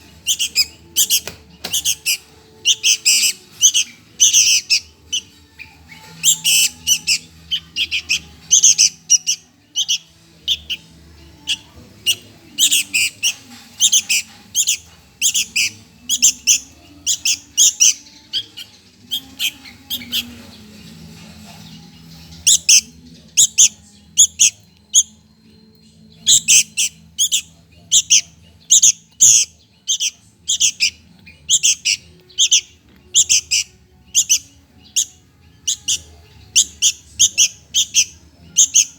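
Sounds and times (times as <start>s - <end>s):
bird chick chirping: 0.0s - 38.9s.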